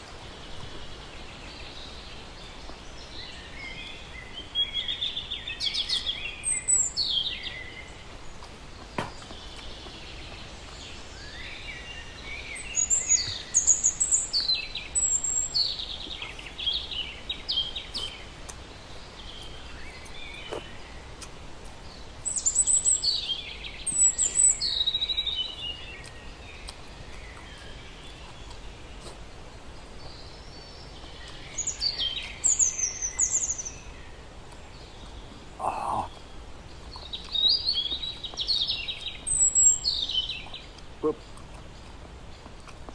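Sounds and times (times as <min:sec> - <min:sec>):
birds chirping: 0:00.0 - 0:42.9
outdoor background hum: 0:00.0 - 0:42.9.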